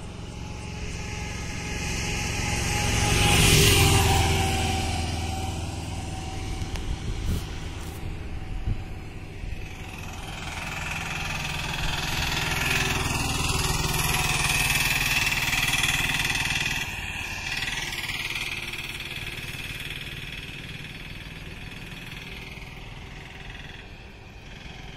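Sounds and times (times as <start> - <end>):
low road rumble: 0.0 - 24.9
vehicle passing by: 0.0 - 24.9.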